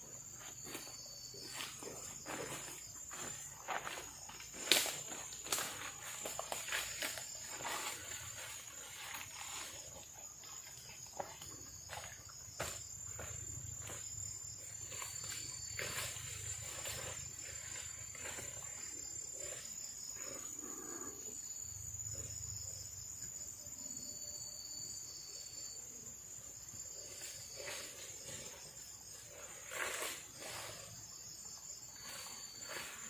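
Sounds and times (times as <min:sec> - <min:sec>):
buzzing insect call: 0:00.0 - 0:33.0
crickets droning: 0:00.0 - 0:33.0.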